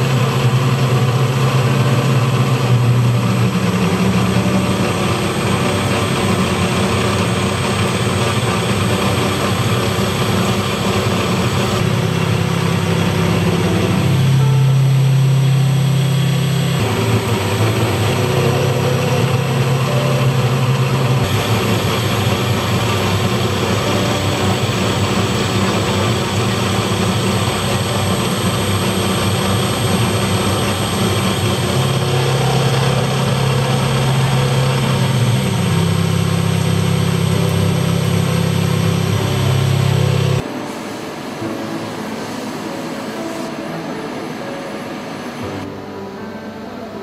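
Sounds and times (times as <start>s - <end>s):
heavy machinery running: 0.0s - 47.0s.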